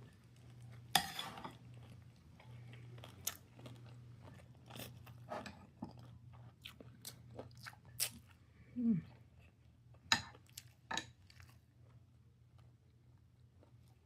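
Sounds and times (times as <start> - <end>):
person chewing crunchy food: 0.1 - 8.4, 9.1 - 14.0.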